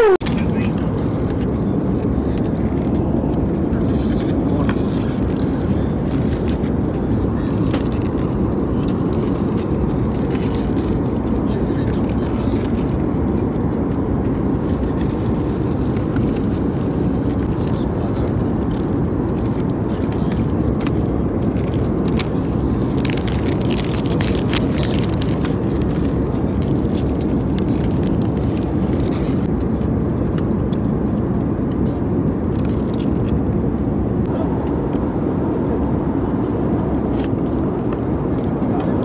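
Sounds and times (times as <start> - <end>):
airliner cabin engine rush: 0.0 - 39.0.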